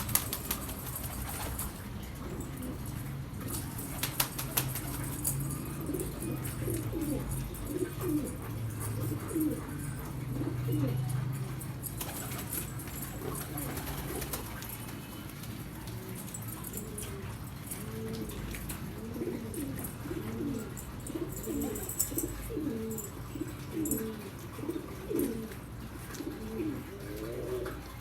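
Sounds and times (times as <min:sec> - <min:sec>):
pigeons cooing: 0:00.0 - 0:14.8, 0:16.1 - 0:28.0.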